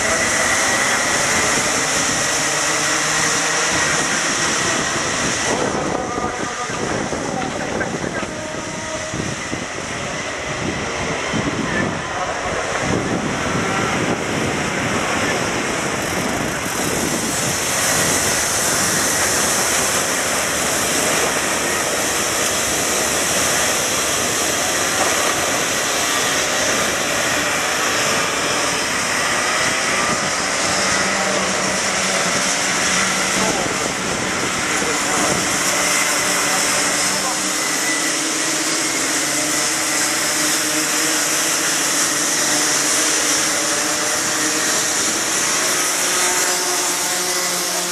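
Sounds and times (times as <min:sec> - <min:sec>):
kart engines revving: 0:00.0 - 0:47.9.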